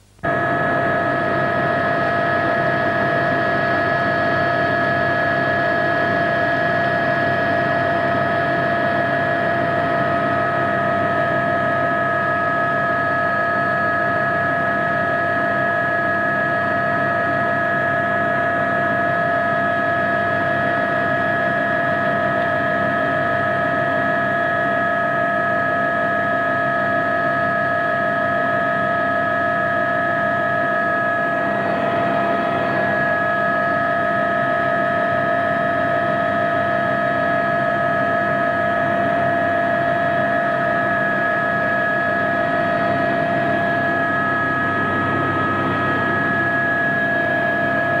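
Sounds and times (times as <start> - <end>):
helicopter cabin whine and rumble: 0.2 - 48.0.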